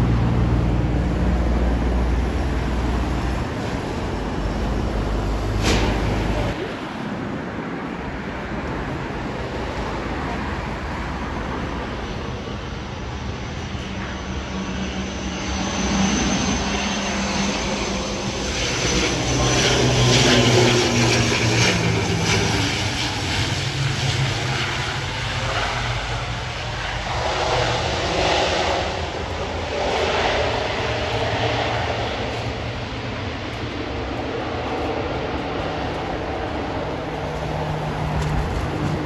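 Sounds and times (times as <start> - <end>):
aircraft engines passing: 0.0 - 39.0.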